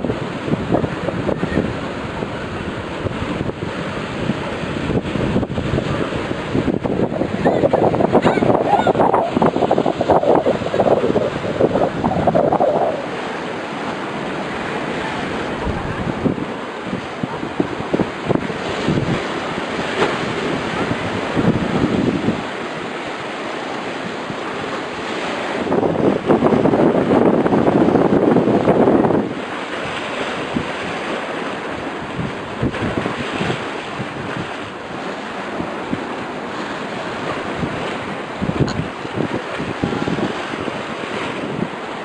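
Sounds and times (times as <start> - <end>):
sea waves: 0.0 - 42.0
wind blowing across microphone: 0.0 - 42.0.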